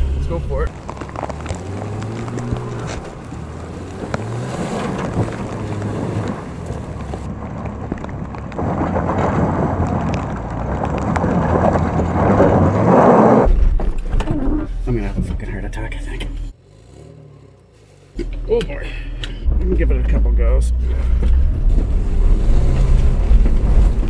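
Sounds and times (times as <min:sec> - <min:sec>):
car engine running at low revs: 0:00.0 - 0:24.0.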